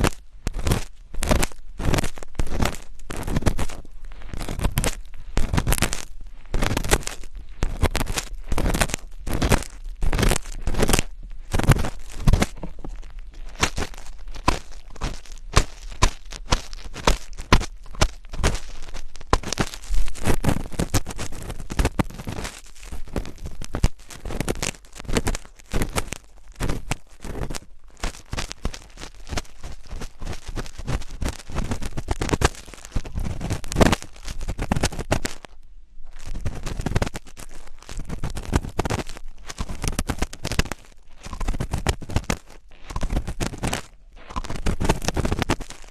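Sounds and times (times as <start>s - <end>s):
scratching and rustling on microphone: 0.0s - 45.9s.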